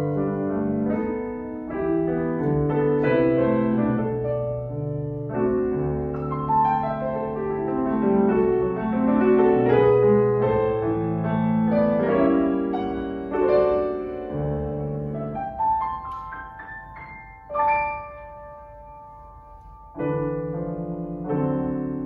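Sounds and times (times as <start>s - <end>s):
solo grand piano: 0.0s - 22.0s.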